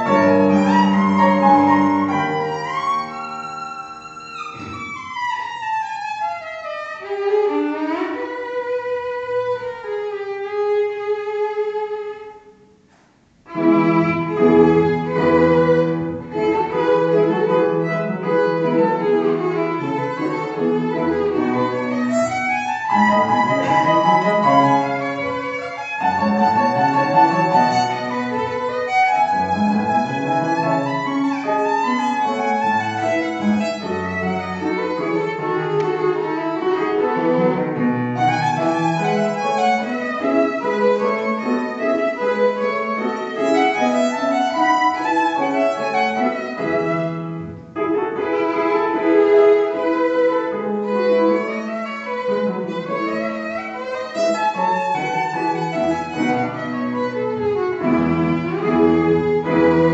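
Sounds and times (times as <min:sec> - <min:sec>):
solo violin playing: 0:00.0 - 0:12.6, 0:13.4 - 0:59.9.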